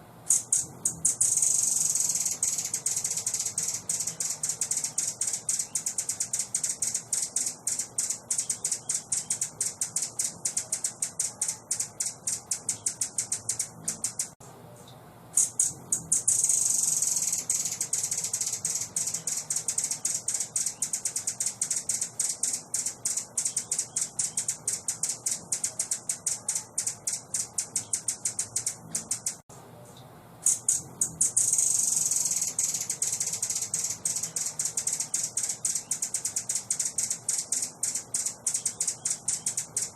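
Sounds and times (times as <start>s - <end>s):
high bird trill: 0.0s - 14.4s, 15.4s - 29.5s, 30.4s - 39.9s
songbird chattering calls: 0.3s - 14.4s, 15.4s - 29.4s, 30.5s - 39.9s.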